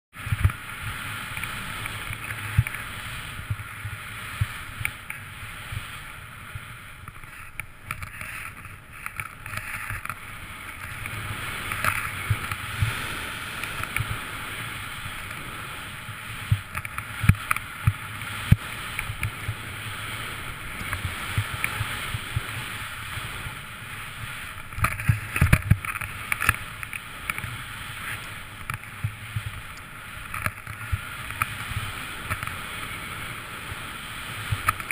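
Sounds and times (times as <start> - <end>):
snowboard swishing through snow: 0.2 - 7.5, 8.2 - 34.9.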